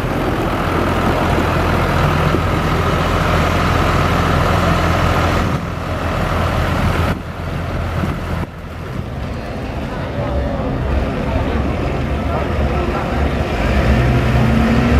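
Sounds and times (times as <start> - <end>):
diesel tractor engine idling: 0.0 - 14.9.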